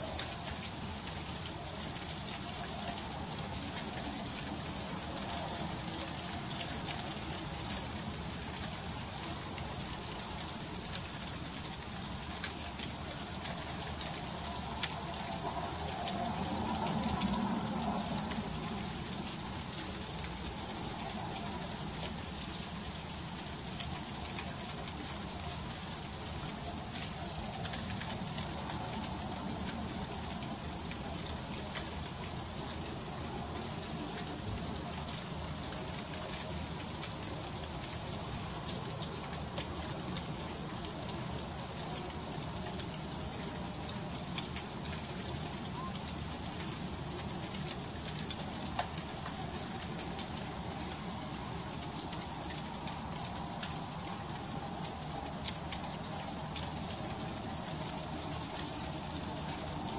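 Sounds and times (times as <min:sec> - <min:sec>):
freezing rain ticking: 0:00.0 - 0:59.9.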